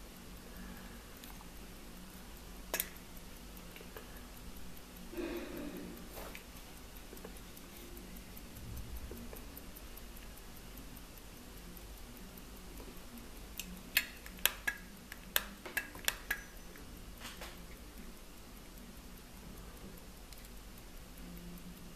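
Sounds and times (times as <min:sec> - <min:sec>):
pocket watch ticking: 0:00.0 - 0:21.9.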